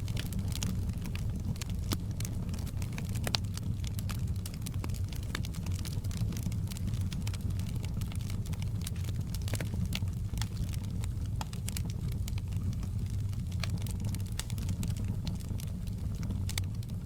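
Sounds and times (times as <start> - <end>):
low rumble of burning: 0.0 - 17.0
wood fire crackling and popping: 0.0 - 17.0.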